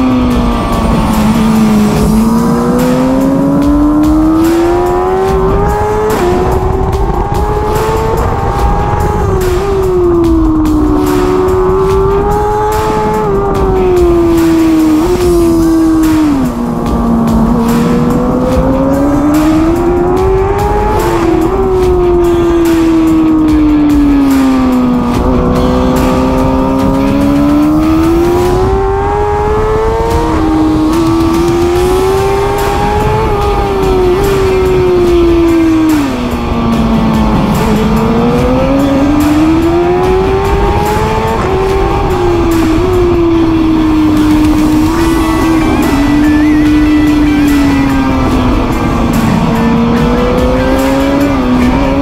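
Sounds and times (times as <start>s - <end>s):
motorcycle engine revving: 0.0s - 52.0s
wind rushing over microphone: 0.0s - 52.0s.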